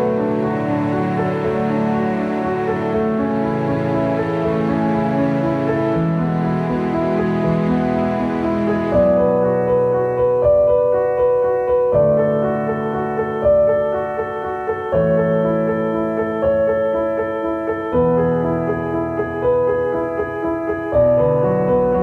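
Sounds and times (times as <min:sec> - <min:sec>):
keyboard music chords: 0:00.0 - 0:22.0.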